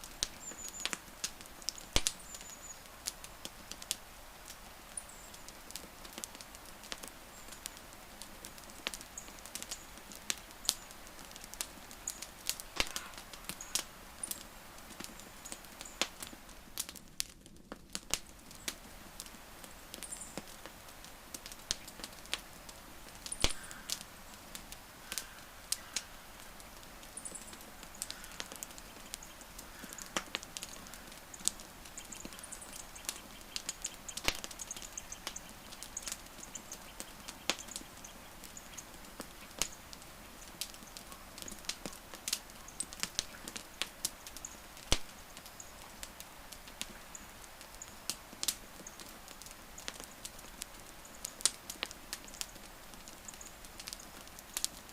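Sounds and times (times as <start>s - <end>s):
burning wood popping: 0.0s - 54.9s
wood fire crackling: 0.0s - 54.9s.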